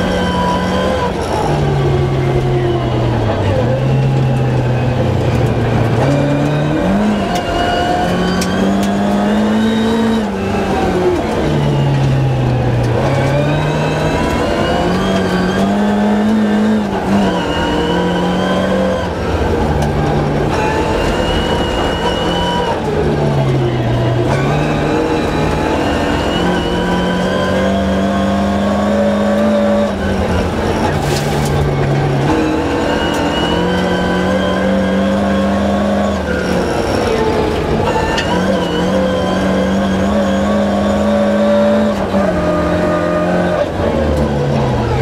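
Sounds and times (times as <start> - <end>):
car engine revving through gears: 0.0 - 45.0.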